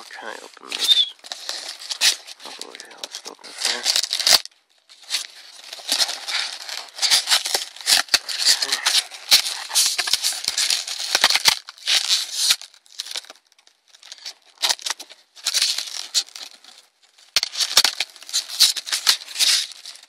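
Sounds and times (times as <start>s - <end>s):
foam packaging rustling and scraping: 0.0s - 20.0s.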